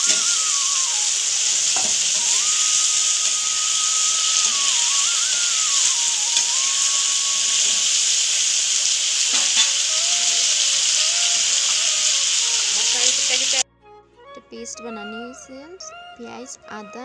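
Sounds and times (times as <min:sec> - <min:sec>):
vegetables sizzling in hot oil: 0:00.0 - 0:13.6.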